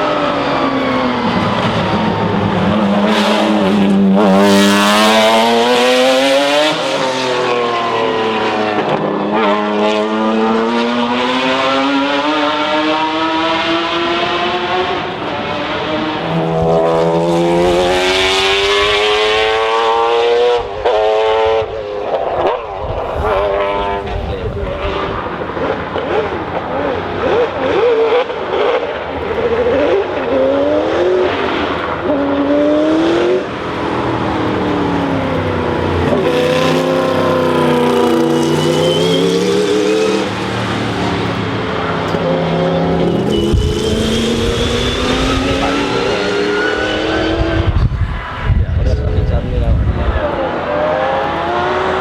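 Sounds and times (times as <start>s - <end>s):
racing car engines revving: 0.0s - 52.0s.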